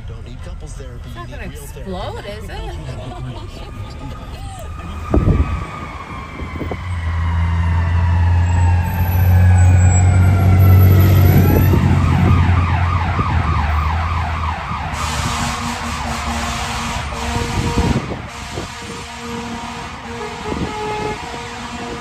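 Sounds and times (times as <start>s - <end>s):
emergency vehicle siren: 3.4s - 22.0s.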